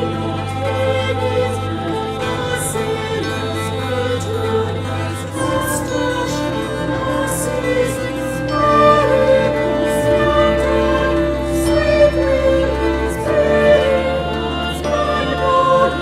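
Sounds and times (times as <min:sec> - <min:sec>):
choir singing held chords: 0:00.0 - 0:16.0
low sustained bass note: 0:00.0 - 0:16.0.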